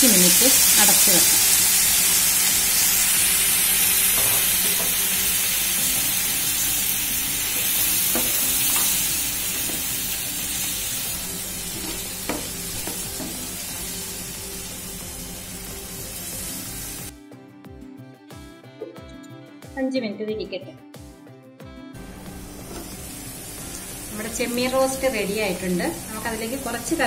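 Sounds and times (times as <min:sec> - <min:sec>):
food sizzling in frying pan: 0:00.0 - 0:17.1, 0:22.0 - 0:27.0
background music: 0:00.0 - 0:27.0.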